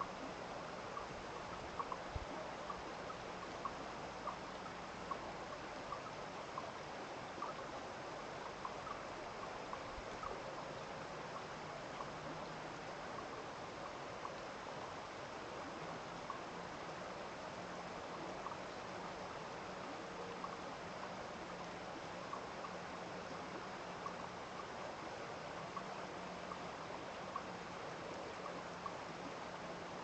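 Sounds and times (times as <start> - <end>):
stream running: 0.0 - 30.0.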